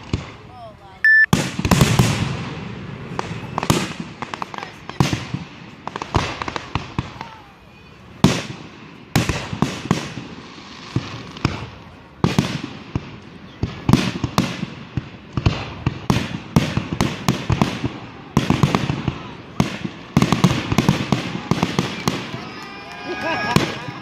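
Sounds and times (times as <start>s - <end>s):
fireworks exploding: 0.0s - 24.0s.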